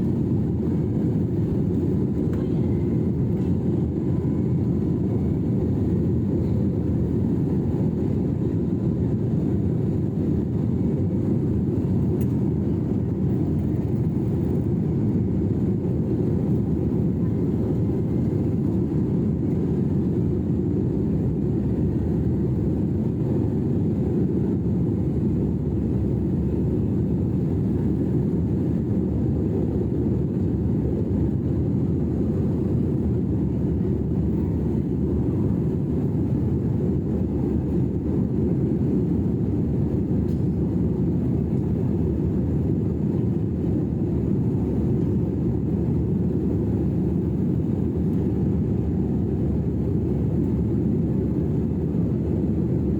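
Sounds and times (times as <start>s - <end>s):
jet engine and airflow roar: 0.0s - 52.9s.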